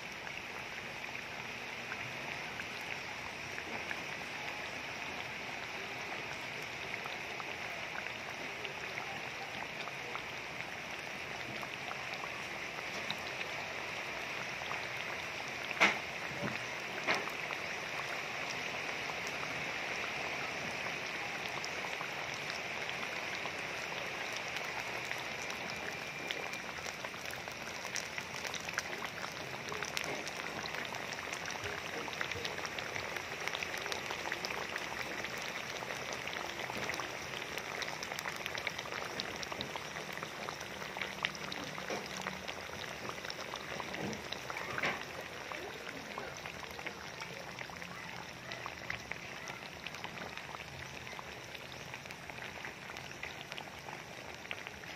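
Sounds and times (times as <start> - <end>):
food deep-frying in hot oil: 0.0 - 54.9.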